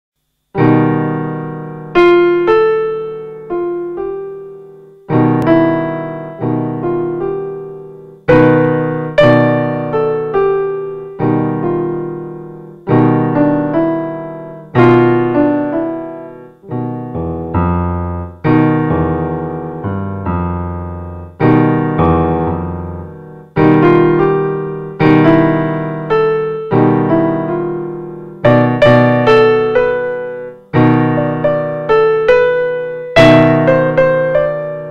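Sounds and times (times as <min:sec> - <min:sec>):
solo piano: 0:00.2 - 0:34.9.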